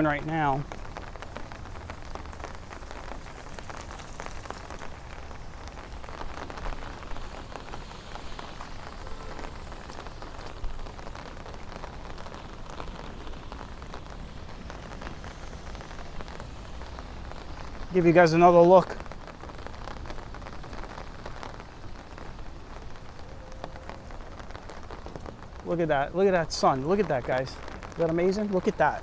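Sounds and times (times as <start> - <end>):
raindrops ticking: 0.0 - 29.0
steady rain falling: 0.0 - 29.0.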